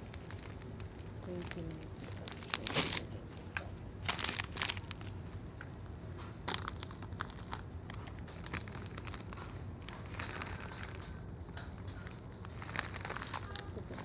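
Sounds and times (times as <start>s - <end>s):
plastic bags crinkling: 0.0s - 14.0s
steady low hum: 0.0s - 14.0s.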